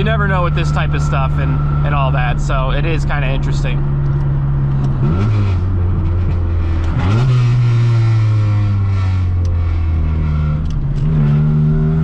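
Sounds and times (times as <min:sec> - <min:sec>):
car engine droning while driving: 0:00.0 - 0:12.0.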